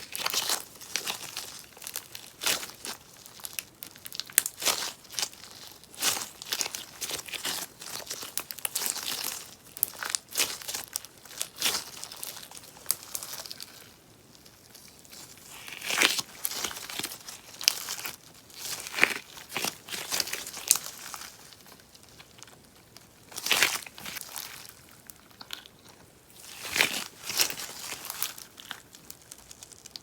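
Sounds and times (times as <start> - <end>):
slime crackling and popping: 0.0 - 30.0.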